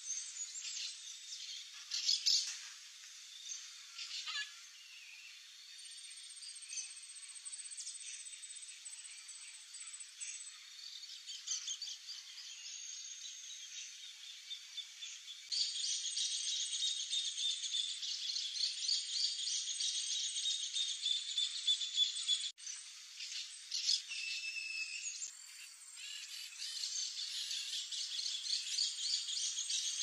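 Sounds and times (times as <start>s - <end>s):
small birds chirping and trilling: 0.0s - 2.7s, 3.3s - 30.0s.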